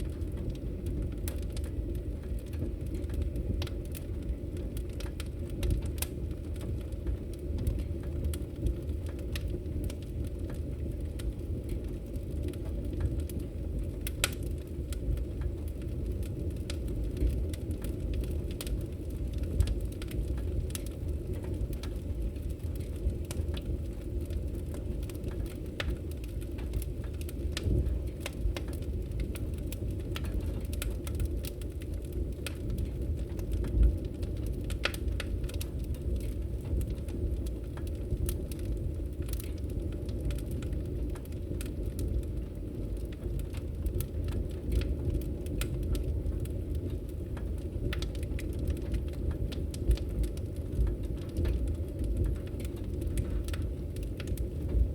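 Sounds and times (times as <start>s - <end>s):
fireplace crackling and popping: 0.0s - 54.9s.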